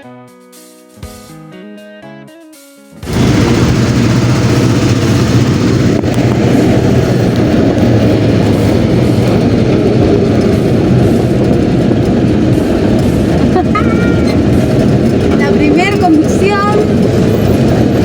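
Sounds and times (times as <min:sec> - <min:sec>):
low engine drone: 0:03.0 - 0:18.0
road and wind noise: 0:03.0 - 0:18.0.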